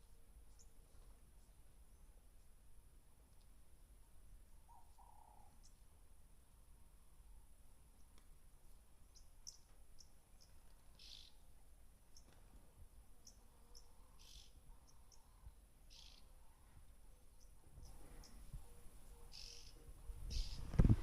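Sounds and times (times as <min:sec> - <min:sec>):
faint wild bird calls: 0:03.2 - 0:21.0.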